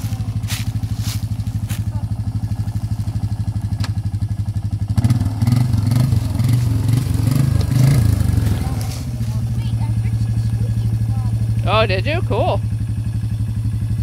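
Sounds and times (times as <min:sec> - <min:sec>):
quad bike engine idling: 0:00.0 - 0:14.0.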